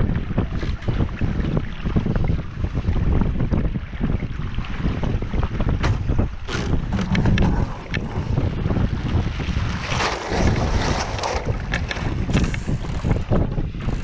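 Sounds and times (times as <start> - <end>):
water splashing against hull: 0.0 - 14.0
wind buffeting microphone: 0.0 - 14.0.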